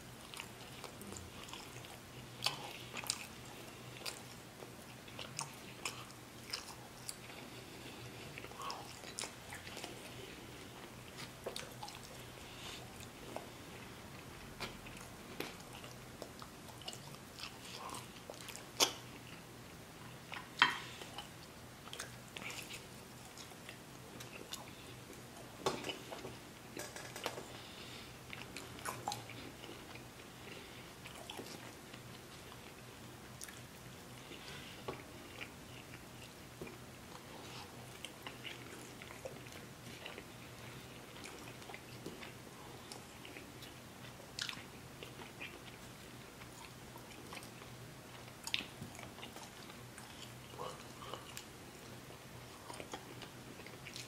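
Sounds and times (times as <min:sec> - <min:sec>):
man chewing meat: 0:00.0 - 0:54.0.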